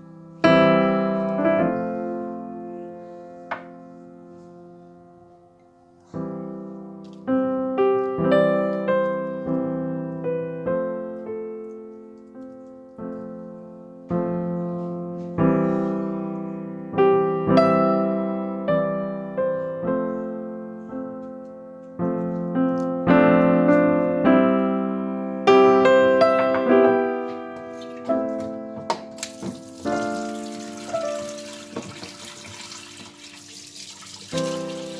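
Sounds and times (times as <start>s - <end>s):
solo piano music: 0.0s - 34.9s.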